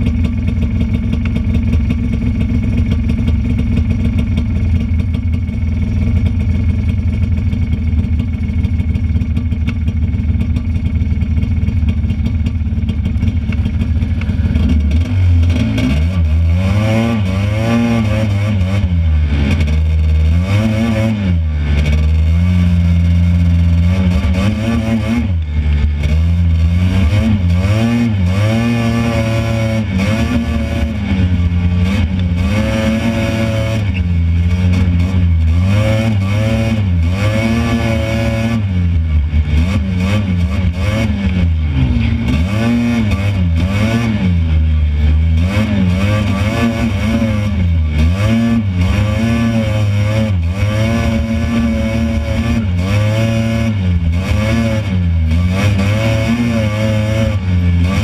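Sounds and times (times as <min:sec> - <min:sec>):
buggy engine revving: 0:00.0 - 0:58.0.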